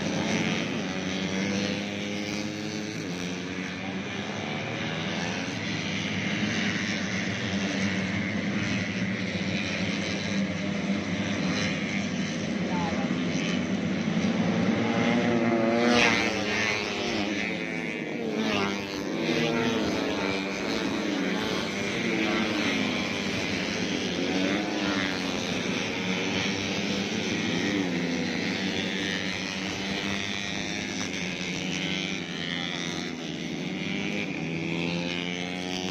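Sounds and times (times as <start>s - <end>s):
motorcycles revving high: 0.0s - 35.9s.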